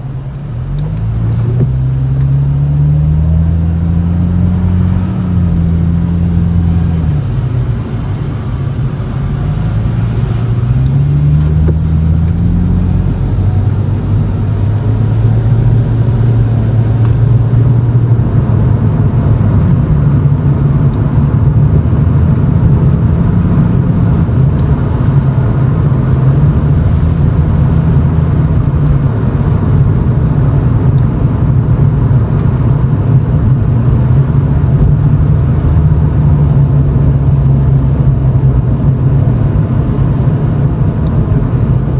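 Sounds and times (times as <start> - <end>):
car engine exhaust drone: 0.0 - 41.9.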